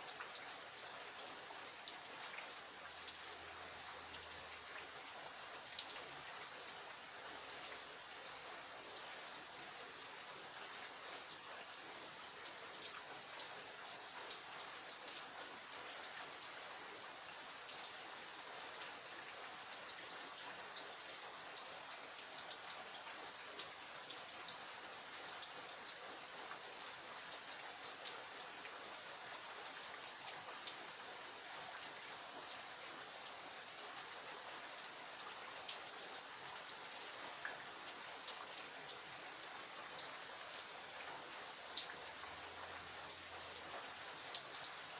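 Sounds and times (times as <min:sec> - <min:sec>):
raindrops ticking on surfaces: 0:00.0 - 0:44.9
steady rain hiss: 0:00.0 - 0:44.9.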